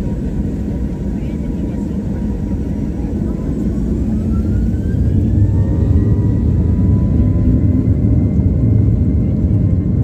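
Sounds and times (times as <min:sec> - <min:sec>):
jet engine rumble and whine: 0:00.0 - 0:10.0.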